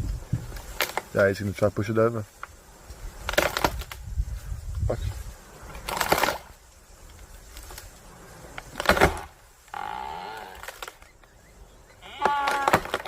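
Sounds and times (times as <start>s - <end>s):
wood cracking and branches snapping: 0.0s - 1.7s, 2.3s - 11.3s, 12.0s - 13.0s.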